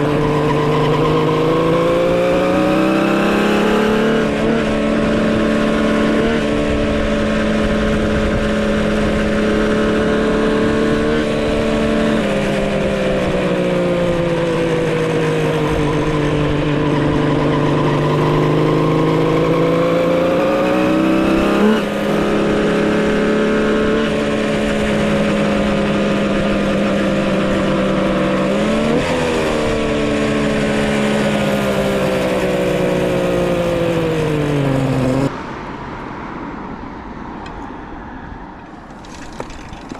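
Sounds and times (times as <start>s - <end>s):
two-stroke motorcycle engine running: 0.0s - 35.3s.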